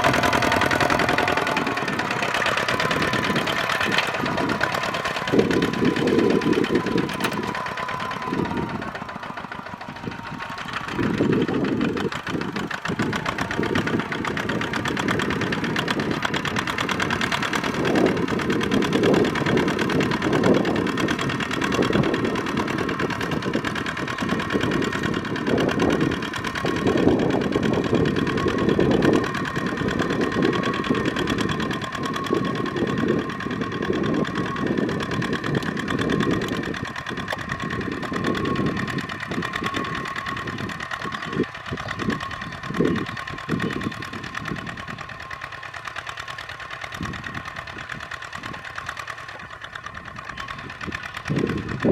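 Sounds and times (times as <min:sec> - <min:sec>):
diesel tractor engine knocking: 0:00.0 - 0:51.9.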